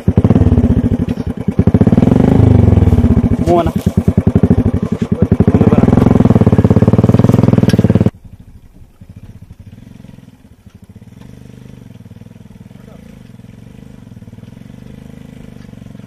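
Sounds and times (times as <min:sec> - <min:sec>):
distant motorcycle engine: 0:00.0 - 0:16.0
motorcycle engine under load: 0:00.0 - 0:16.0.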